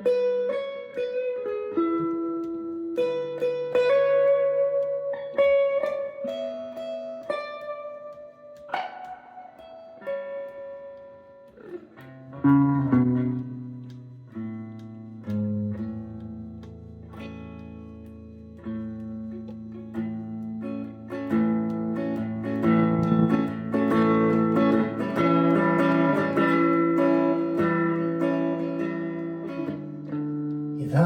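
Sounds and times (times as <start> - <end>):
picked guitar notes: 0.0 - 31.0.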